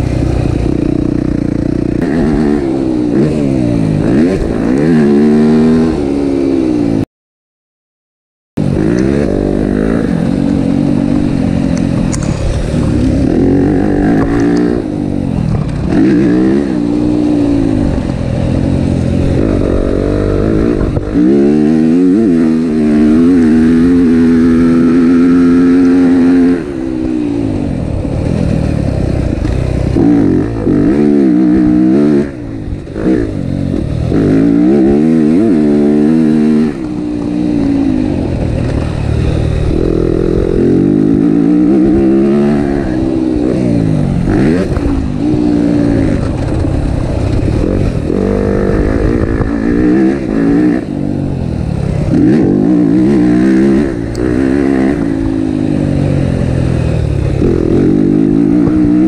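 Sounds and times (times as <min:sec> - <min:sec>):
motocross bike engine revving: 0:00.0 - 0:07.0, 0:08.6 - 0:59.0.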